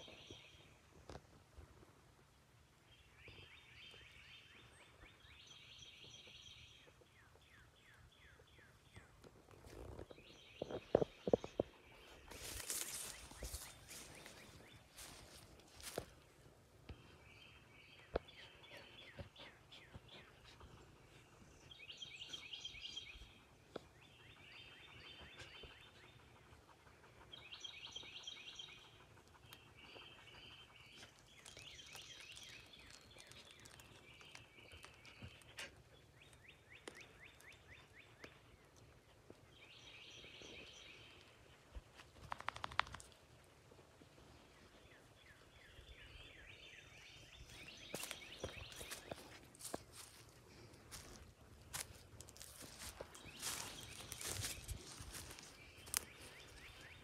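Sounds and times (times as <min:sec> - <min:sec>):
songbirds singing: 0:02.8 - 0:16.3, 0:16.9 - 0:57.0.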